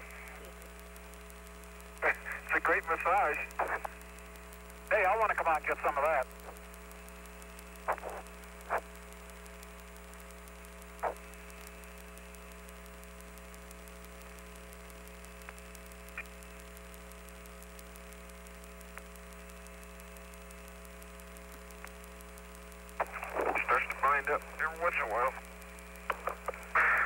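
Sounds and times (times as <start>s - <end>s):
constant tones with hiss: 0.0s - 27.0s
radio channel electrical hum: 0.0s - 27.0s.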